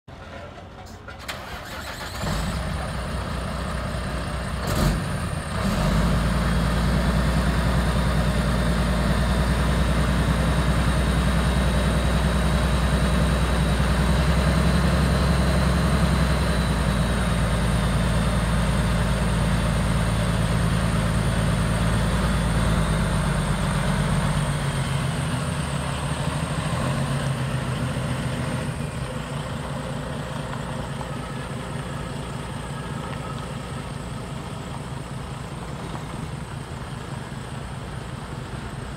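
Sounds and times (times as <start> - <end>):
diesel engine starting and idling: 0.1 - 38.9
truck pulling away: 0.1 - 38.9.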